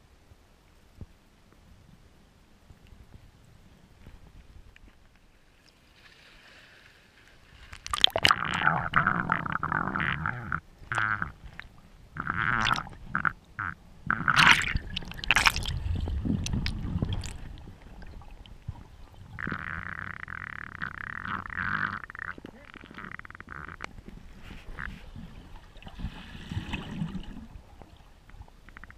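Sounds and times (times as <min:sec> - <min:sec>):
muffled underwater water sloshing: 0:03.9 - 0:28.9.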